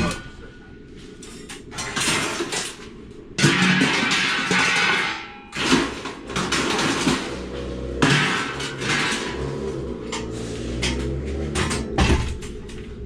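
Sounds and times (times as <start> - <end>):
scrap metal clattering: 0.0 - 13.0.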